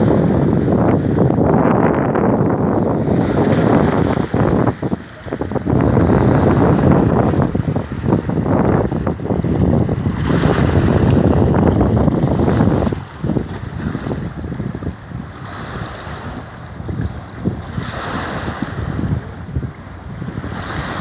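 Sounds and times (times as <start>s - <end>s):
waves crashing on shoreline: 0.0s - 21.0s
wind buffeting microphone: 0.0s - 21.0s.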